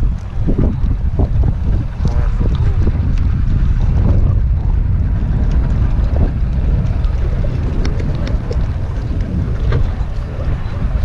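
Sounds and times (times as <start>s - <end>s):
boat engines running: 0.0s - 11.0s
wind buffeting microphone: 0.0s - 11.0s.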